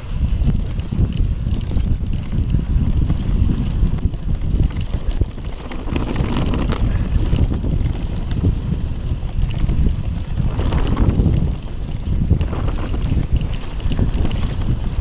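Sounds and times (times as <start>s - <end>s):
bike knocking and rattling: 0.0s - 15.0s
bike tyres rumbling over ground: 0.0s - 15.0s
wind buffeting microphone: 0.0s - 15.0s.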